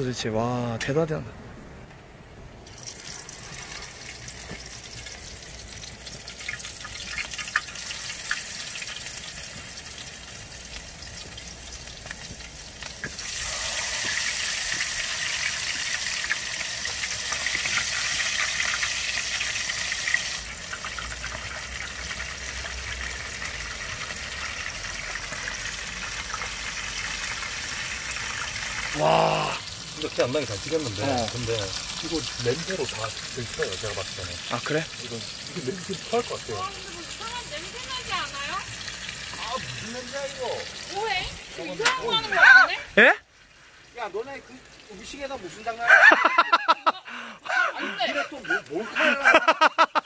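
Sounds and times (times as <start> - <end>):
tofu deep-frying in hot oil: 2.6 - 46.7.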